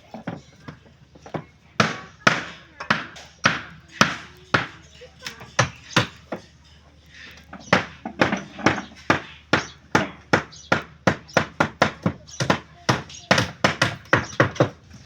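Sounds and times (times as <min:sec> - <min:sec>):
hand tool striking: 0:00.1 - 0:15.0.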